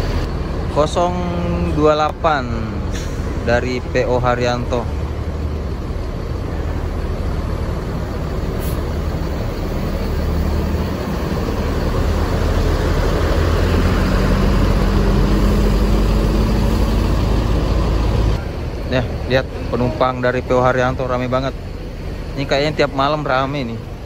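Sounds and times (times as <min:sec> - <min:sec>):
bus engine rumble: 0:00.0 - 0:24.0.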